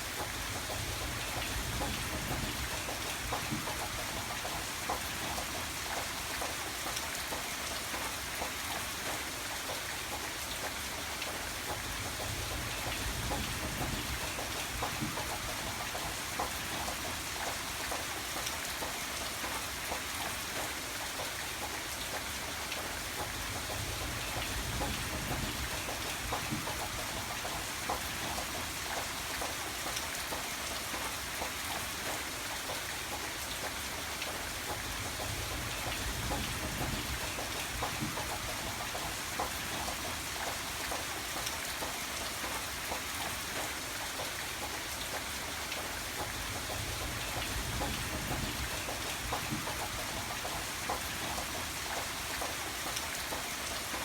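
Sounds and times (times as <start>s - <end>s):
rain drops hitting surface: 0.0s - 54.0s.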